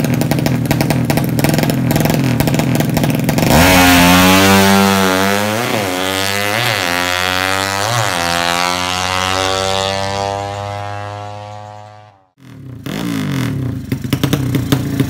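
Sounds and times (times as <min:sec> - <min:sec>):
engine throttle blips: 0:00.0 - 0:12.3
motorcycle engine running: 0:00.0 - 0:15.0.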